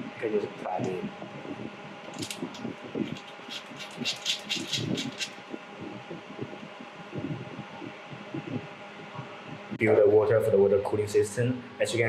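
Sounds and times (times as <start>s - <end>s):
machine humming: 0.0s - 9.9s.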